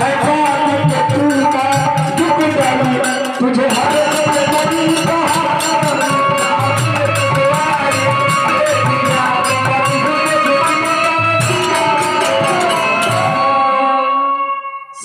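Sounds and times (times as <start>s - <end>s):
steady drum beat: 0.0s - 13.4s
folk band playing: 0.0s - 14.0s
jingling percussion: 0.0s - 14.2s.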